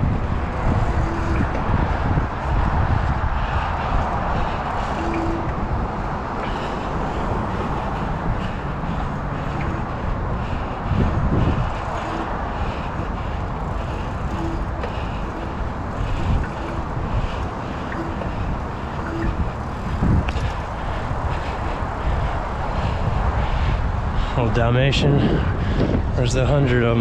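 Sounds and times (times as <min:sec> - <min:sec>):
bicycle tyres rolling on pavement: 0:00.0 - 0:27.0
wind rushing over microphone: 0:00.0 - 0:27.0.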